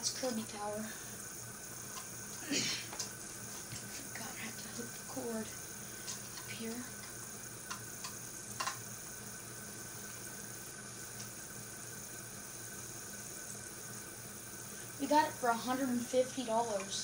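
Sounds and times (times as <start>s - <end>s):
low hiss of room noise: 0.0s - 17.0s.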